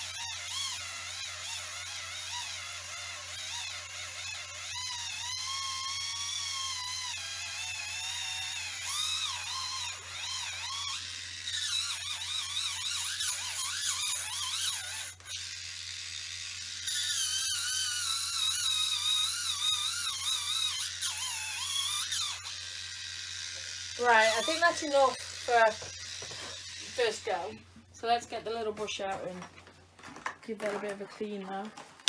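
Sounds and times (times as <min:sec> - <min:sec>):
small motor whining grinding skin: 0:00.0 - 0:32.0.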